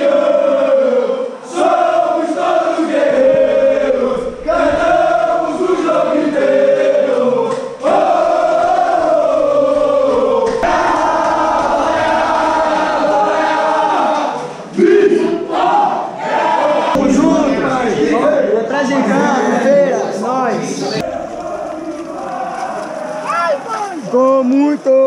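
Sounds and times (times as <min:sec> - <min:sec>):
crowd singing a chant: 0:00.0 - 0:24.2.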